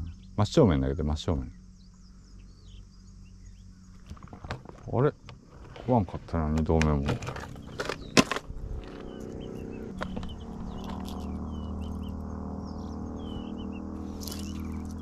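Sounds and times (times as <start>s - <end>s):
steady low hum: 0.0s - 15.0s
wild birds chirping: 0.0s - 15.0s.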